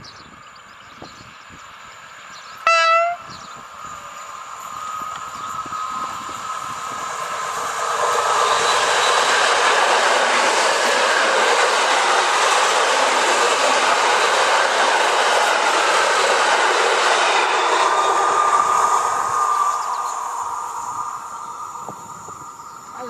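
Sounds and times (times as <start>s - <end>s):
rushing rail noise of wheels: 0.0s - 23.0s
train passing at speed: 0.0s - 23.0s.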